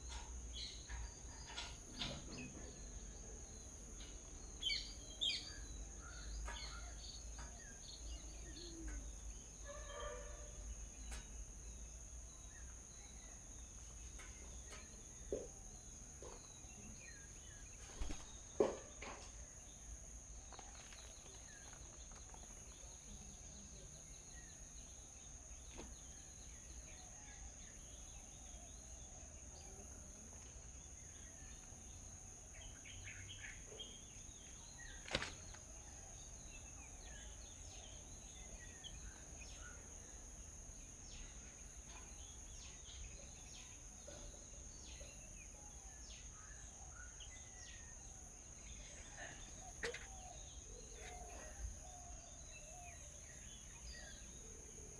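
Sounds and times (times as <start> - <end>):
faint birds chirping: 0.0 - 54.9.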